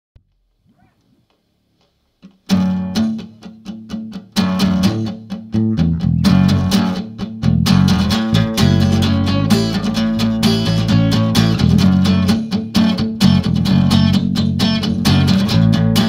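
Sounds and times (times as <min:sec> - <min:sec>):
acoustic guitar strumming: 0:02.4 - 0:16.0.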